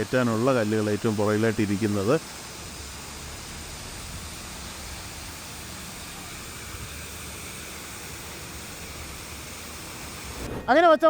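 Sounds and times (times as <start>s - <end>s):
even hiss: 0.0s - 11.0s
faint high whine: 0.0s - 11.0s.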